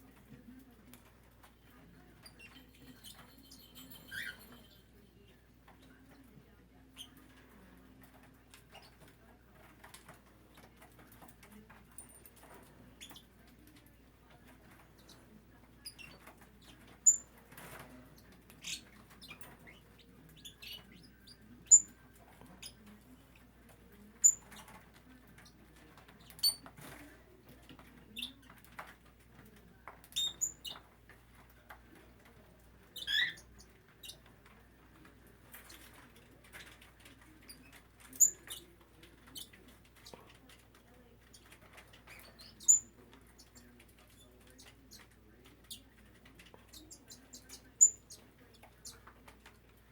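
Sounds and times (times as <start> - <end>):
parakeets chirping: 1.1 - 6.2, 12.3 - 27.0, 27.7 - 34.6, 35.4 - 49.9.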